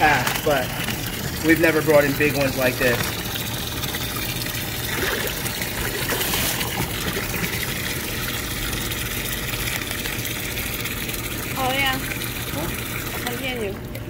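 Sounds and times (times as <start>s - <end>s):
water running into a bag: 0.0s - 14.0s
water splashing and bubbling: 0.0s - 14.0s.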